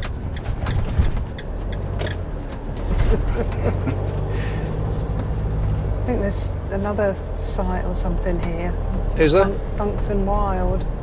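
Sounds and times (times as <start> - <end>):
motorhome engine running: 0.0 - 11.0.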